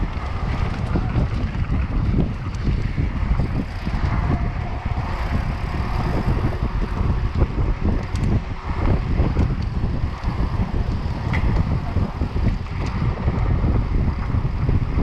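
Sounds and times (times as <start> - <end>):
bike rattling over rough ground: 0.0 - 15.0
wind noise on microphone: 0.0 - 15.0.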